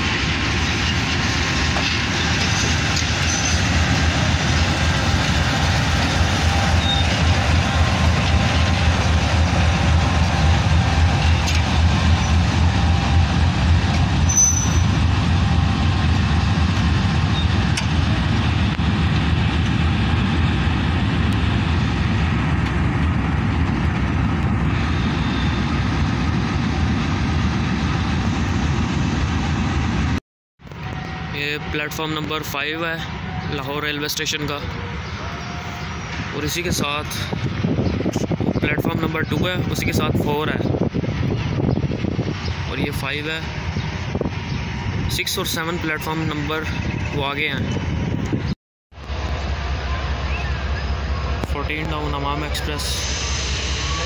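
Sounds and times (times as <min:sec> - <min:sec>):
diesel locomotive engine throbbing: 0:00.0 - 0:54.0
railway wagons rolling past: 0:00.0 - 0:54.0.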